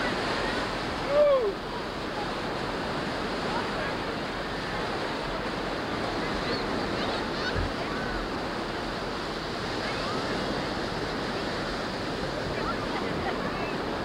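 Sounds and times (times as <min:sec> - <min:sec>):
faint distant voices: 0:00.0 - 0:14.0
ocean surf rushing: 0:00.0 - 0:14.0.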